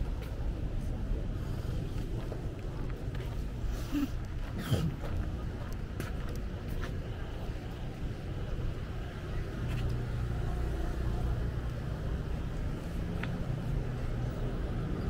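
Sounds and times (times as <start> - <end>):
vehicle engines on city street: 0.0 - 15.0.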